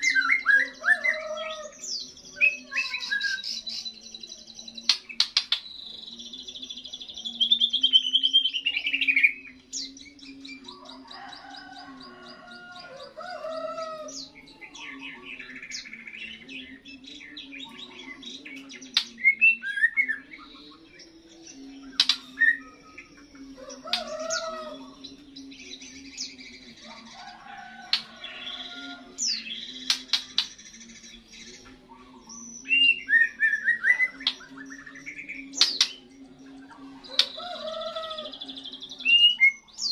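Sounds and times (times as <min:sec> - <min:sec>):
bird singing whistles and trills: 0:00.0 - 0:27.0, 0:27.6 - 0:39.9.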